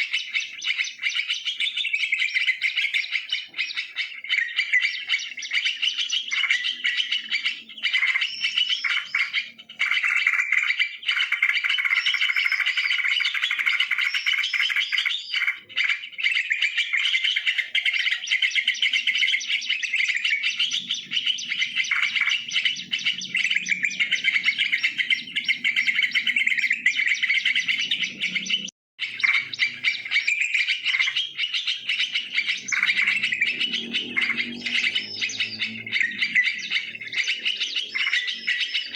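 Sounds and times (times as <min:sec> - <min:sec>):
bulbuls chattering: 0:00.0 - 0:38.9.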